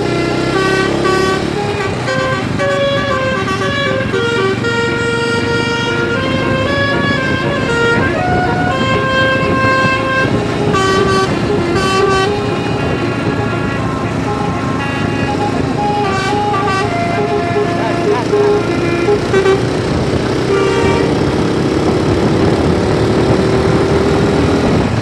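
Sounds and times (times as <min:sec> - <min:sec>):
bus horns playing a melody: 0:00.0 - 0:25.0
low engine rumble: 0:00.0 - 0:25.0.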